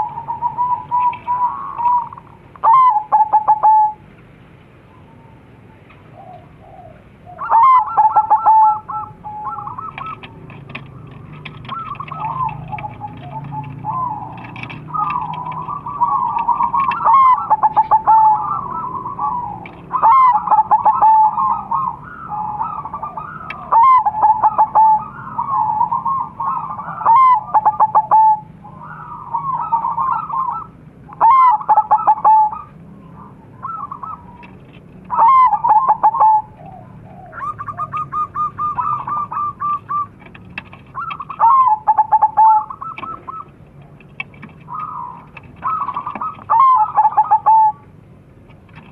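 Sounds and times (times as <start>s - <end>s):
doves cooing: 0.0s - 4.1s, 4.8s - 48.0s.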